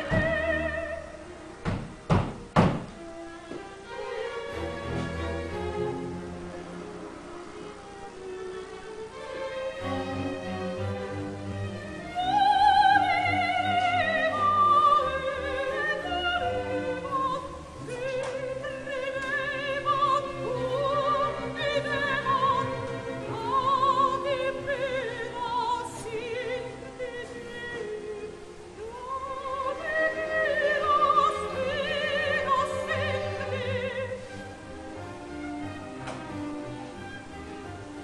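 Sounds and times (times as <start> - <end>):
classical singer with vibrato: 0.0 - 2.0, 3.0 - 38.0
orchestral accompaniment: 0.0 - 38.0.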